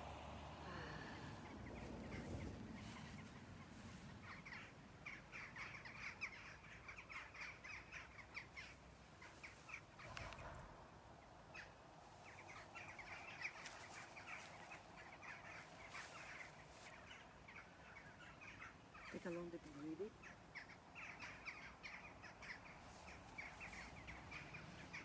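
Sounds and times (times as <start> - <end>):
flock of birds calling: 0.6 - 10.6, 11.5 - 25.0.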